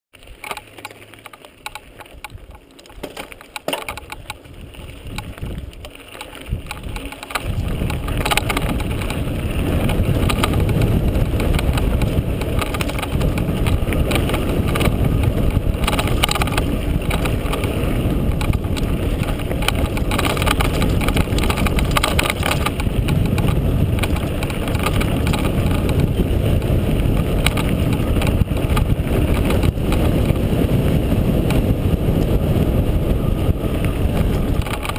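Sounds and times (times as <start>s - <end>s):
tyre noise: 0.2s - 34.9s
bike knocking over bumps: 0.4s - 32.8s
wind rumble on microphone: 1.6s - 34.9s.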